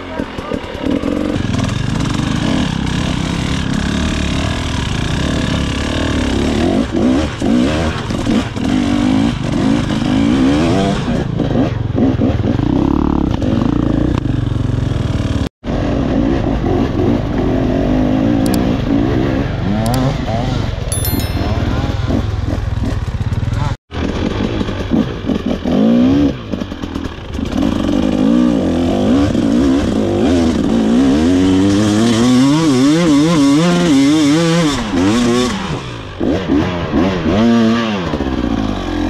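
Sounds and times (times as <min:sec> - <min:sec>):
motorcycle engine revving: 0:00.2 - 0:20.8, 0:22.0 - 0:39.0.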